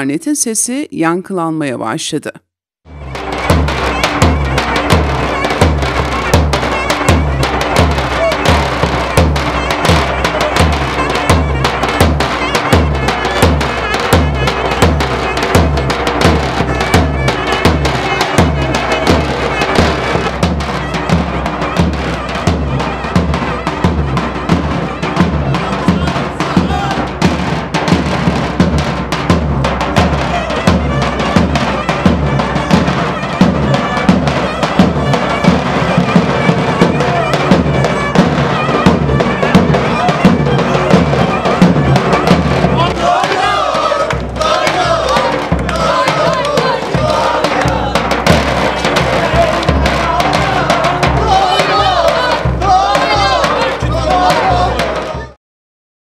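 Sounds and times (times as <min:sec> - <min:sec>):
clarinet folk tune: 0:02.9 - 0:27.8, 0:29.7 - 0:55.4
bass drum dance rhythm: 0:02.9 - 0:32.8, 0:33.4 - 0:55.3.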